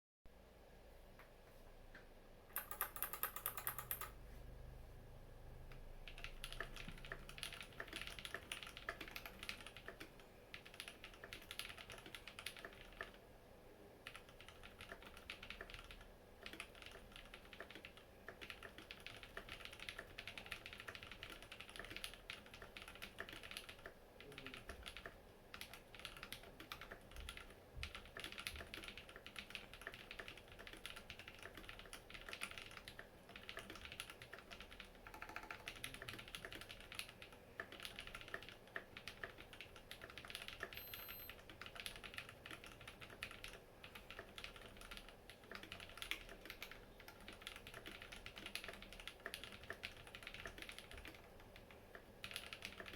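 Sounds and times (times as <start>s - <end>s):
mechanical keyboard typing: 2.5s - 4.2s, 5.7s - 13.2s, 14.0s - 52.9s.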